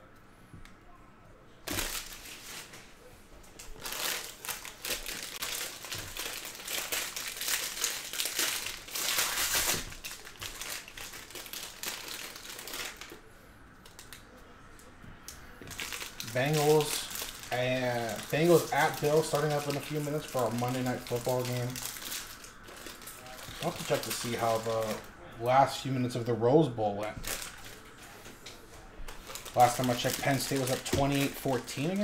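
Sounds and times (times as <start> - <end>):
foil wrappers crinkling: 1.6 - 2.9, 3.5 - 14.3, 15.6 - 26.2, 27.0 - 32.0.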